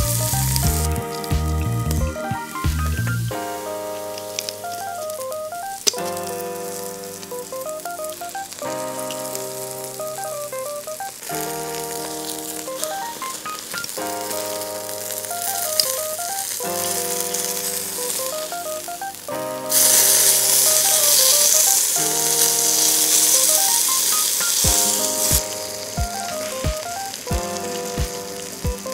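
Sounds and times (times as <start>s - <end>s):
background music: 0.0s - 28.9s
meat sizzling on charcoal grill: 0.0s - 28.9s.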